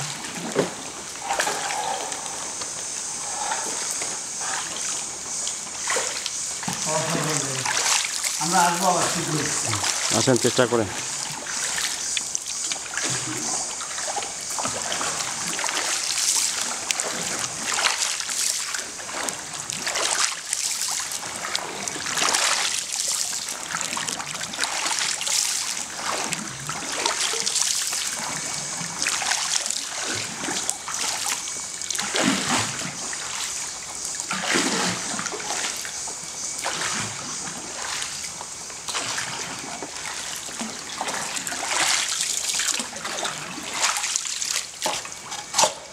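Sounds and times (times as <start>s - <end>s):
water splashing from pole strokes: 5.7s - 35.9s, 36.6s - 38.3s, 38.9s - 45.8s.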